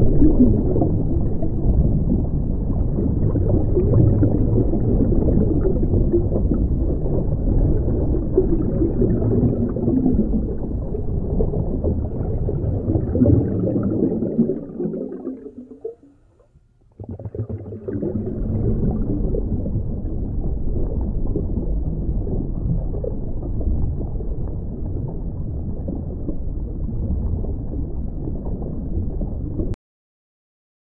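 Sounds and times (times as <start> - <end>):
low underwater rumble: 0.0 - 29.8
regulator bubbles gurgling: 0.0 - 29.8.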